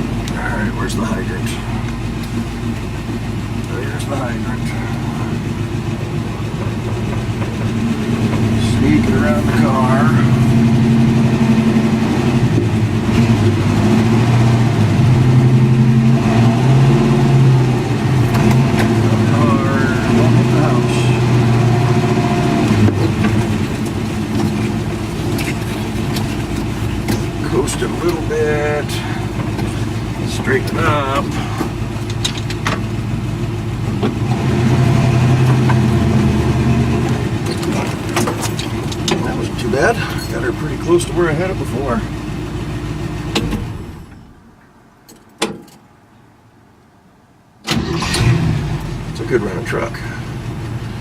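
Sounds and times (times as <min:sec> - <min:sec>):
truck engine running at low revs: 0:00.0 - 0:45.1, 0:47.8 - 0:51.0.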